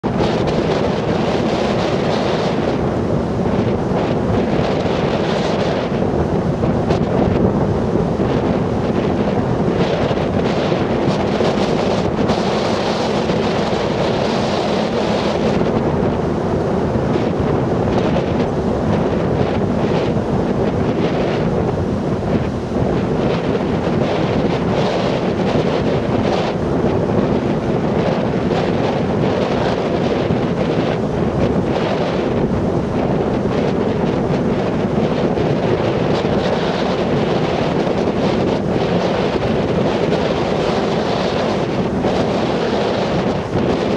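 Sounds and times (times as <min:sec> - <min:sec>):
heavy surf breaking: 0:00.0 - 0:43.9
storm wind buffeting microphone: 0:00.0 - 0:43.9.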